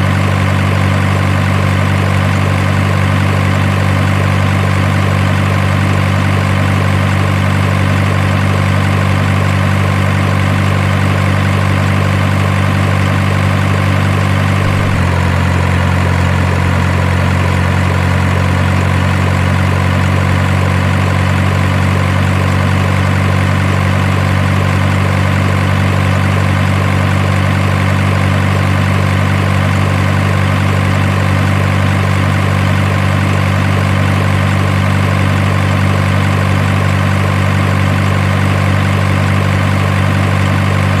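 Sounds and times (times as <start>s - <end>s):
truck engine idling: 0.0s - 41.0s.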